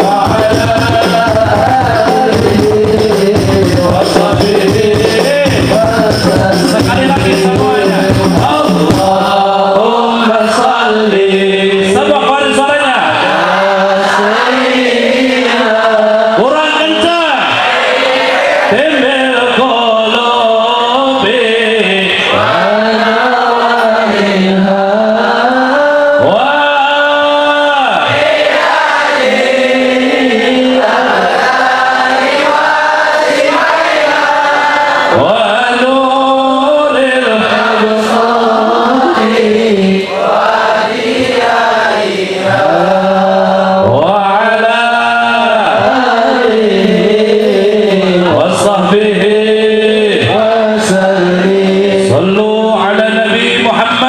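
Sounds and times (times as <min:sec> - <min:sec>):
man chanting into a microphone: 0:00.0 - 0:17.6, 0:18.7 - 0:28.3, 0:29.7 - 0:31.4, 0:35.1 - 0:40.2, 0:40.8 - 0:54.0.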